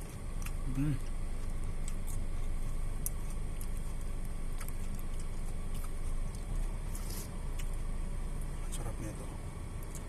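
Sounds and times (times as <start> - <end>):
car engine idling rumble: 0.0 - 10.0.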